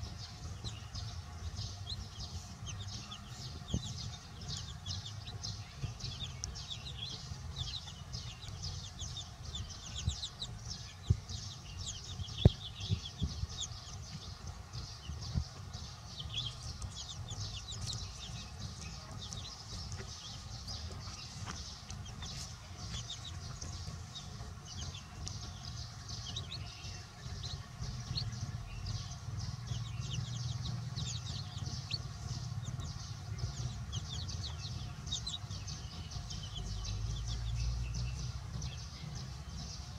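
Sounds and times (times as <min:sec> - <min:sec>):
chicks peeping: 0:00.0 - 0:39.9
low steady rumble: 0:00.0 - 0:39.9.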